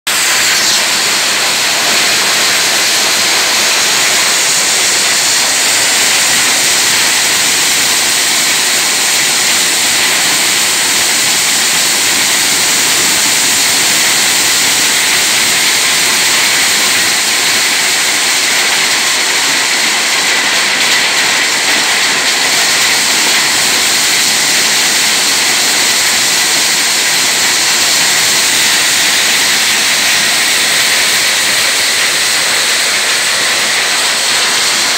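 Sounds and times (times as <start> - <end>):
corn sheller running: 0.1 - 34.9.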